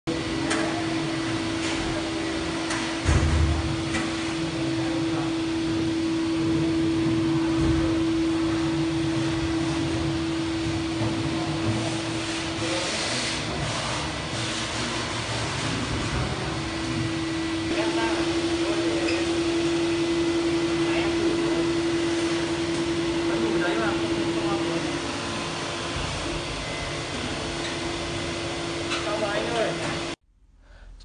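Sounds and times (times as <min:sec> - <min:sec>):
machine hum: 0:00.1 - 0:30.9.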